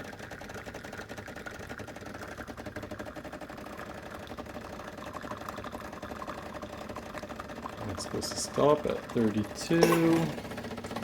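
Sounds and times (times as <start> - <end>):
espresso machine pump buzzing: 0.0 - 11.0.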